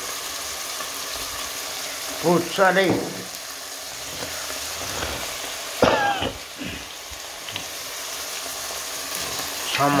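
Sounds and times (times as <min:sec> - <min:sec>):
meat and vegetables sizzling: 0:00.0 - 0:10.0.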